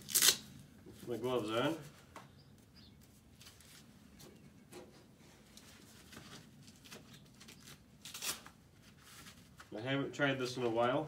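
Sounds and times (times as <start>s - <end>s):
work gloves rustling and clicking: 0.0s - 9.8s.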